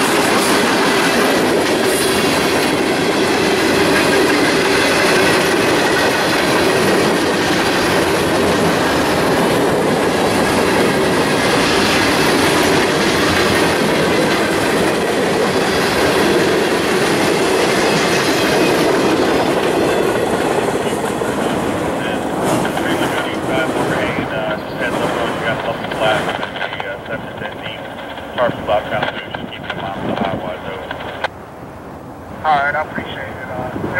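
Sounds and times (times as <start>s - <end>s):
train wheels rumbling on rails: 0.0s - 31.4s.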